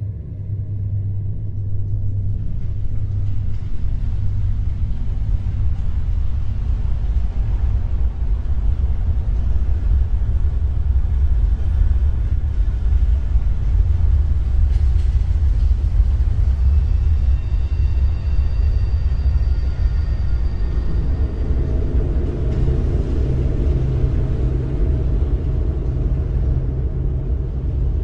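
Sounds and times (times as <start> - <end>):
deep unsteady rumbling: 0.0 - 28.0
low steady drone: 0.0 - 28.0.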